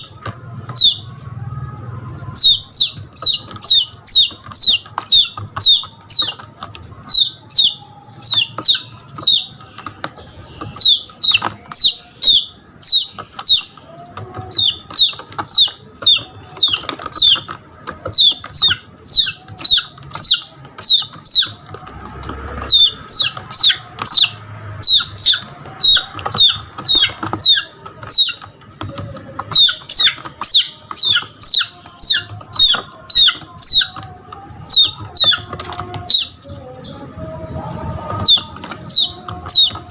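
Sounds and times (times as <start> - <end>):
chick distress peeps: 0.0 - 39.9.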